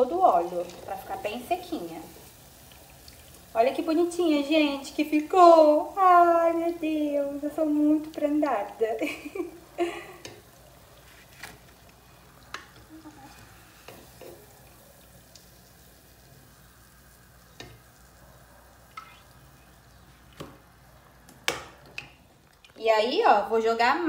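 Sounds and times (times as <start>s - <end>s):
oil sizzling in a pot: 0.0s - 24.0s.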